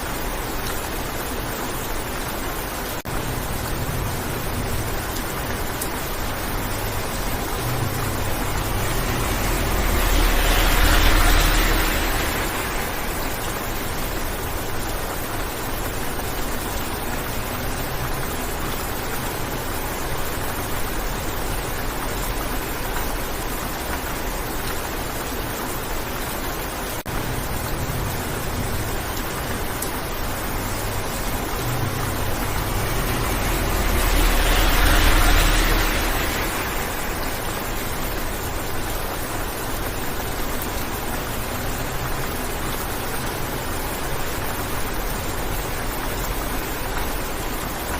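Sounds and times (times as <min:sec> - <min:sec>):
rain on a car windshield: 0:00.0 - 0:47.9.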